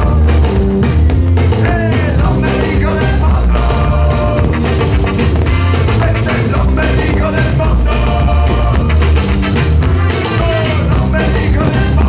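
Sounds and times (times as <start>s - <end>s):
loud rock music with vocals: 0.0s - 12.0s.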